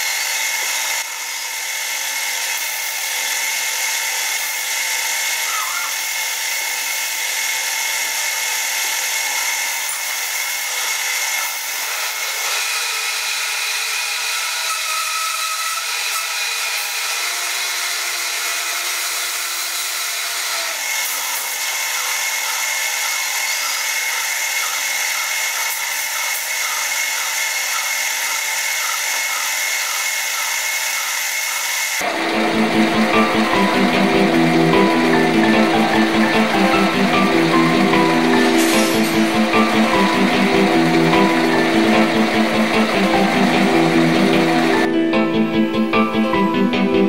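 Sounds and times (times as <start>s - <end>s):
lathe motor whining: 0.0s - 14.8s, 15.8s - 47.0s.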